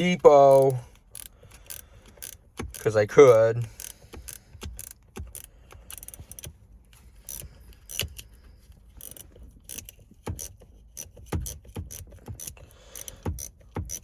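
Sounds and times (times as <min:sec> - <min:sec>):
ratcheting wrench clicking: 0:00.0 - 0:14.0.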